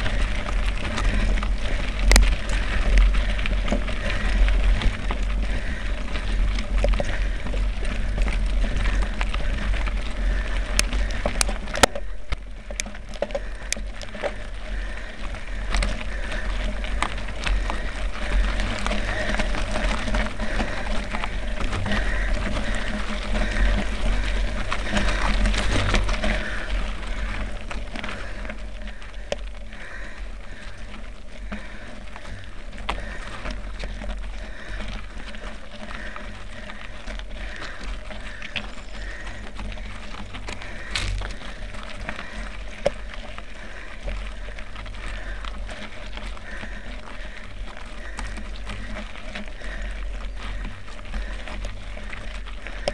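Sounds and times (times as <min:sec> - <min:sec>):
bike rattling: 0:00.0 - 0:52.9
steady low rumble: 0:00.0 - 0:52.9
tyres crunching on gravel: 0:00.0 - 0:52.9.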